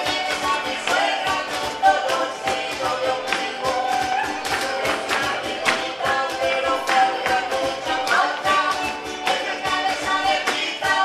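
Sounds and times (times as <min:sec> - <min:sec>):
folk music with harp and guitars: 0:00.0 - 0:11.0.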